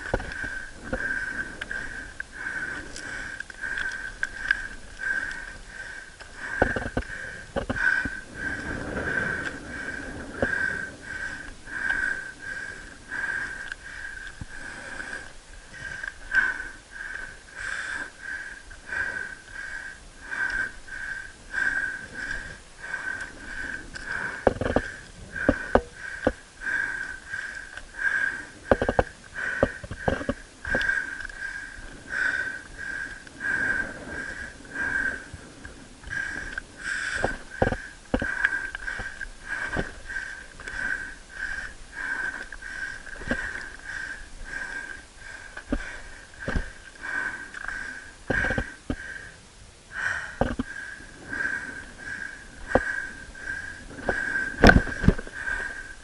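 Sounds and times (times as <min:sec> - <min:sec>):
heavy rhythmic breathing: 0:00.0 - 0:56.0.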